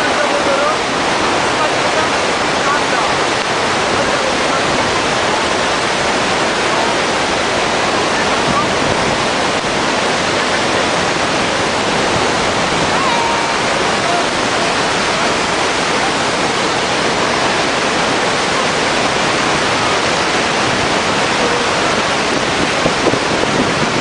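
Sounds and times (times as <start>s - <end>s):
loud rushing noise: 0.0s - 24.0s.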